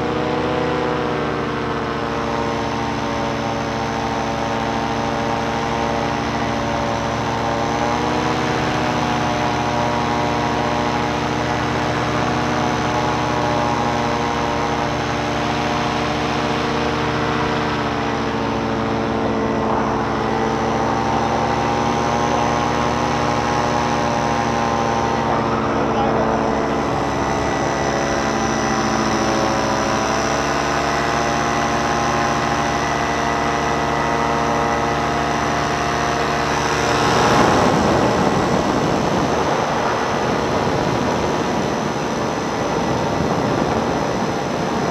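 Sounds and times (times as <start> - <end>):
paramotor engine humming: 0.0 - 44.9.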